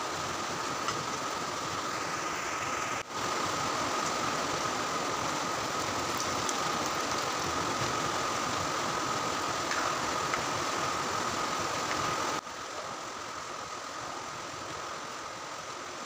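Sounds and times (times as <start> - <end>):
pot boiling hiss: 0.0 - 16.0.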